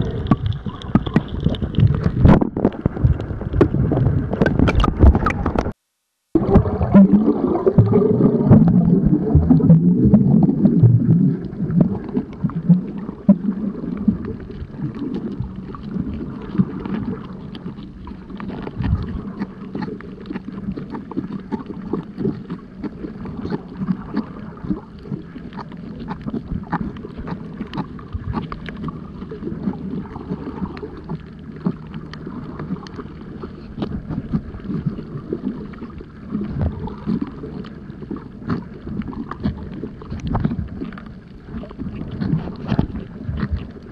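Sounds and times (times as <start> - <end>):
bubbling: 0.0 - 43.9
underwater clicks and crackles: 0.0 - 43.9
underwater rush of water: 0.0 - 43.9.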